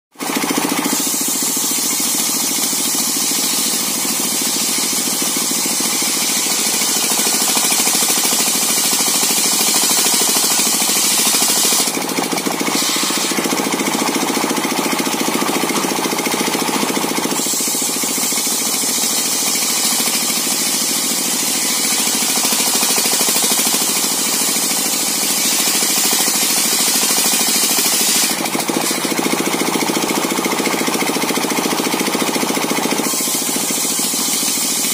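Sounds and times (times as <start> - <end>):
circular saw cutting wood: 0.1 - 34.9.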